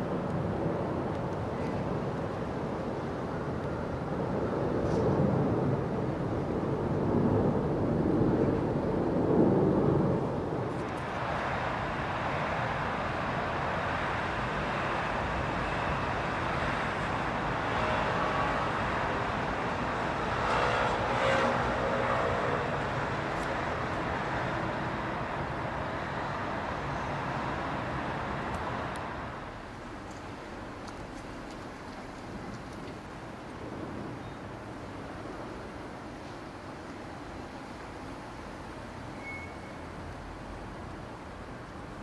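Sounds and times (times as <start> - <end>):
outdoor rumble and hiss: 0.0 - 42.0.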